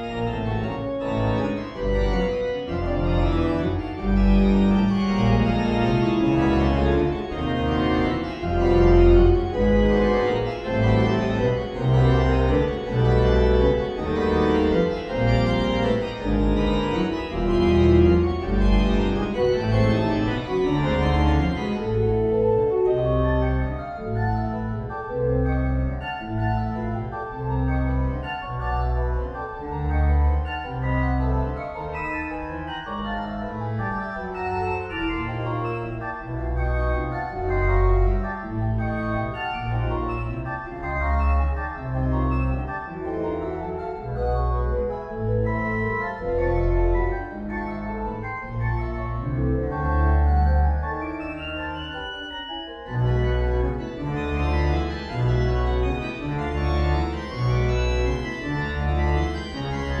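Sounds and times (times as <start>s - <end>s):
organ pedal bass notes: 0.0s - 60.0s
pipe organ chords: 0.0s - 60.0s.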